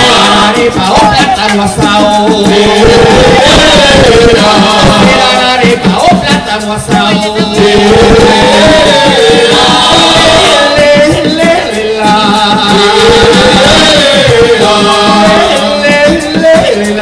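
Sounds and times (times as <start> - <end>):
chorus singing folk song: 0.0 - 17.0
hand drums: 0.0 - 17.0
maracas: 0.0 - 17.0.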